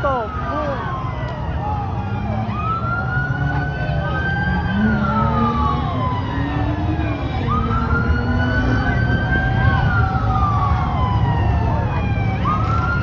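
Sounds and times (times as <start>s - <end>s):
police siren wailing: 0.0s - 13.0s
vehicle and road rumble: 0.0s - 13.0s.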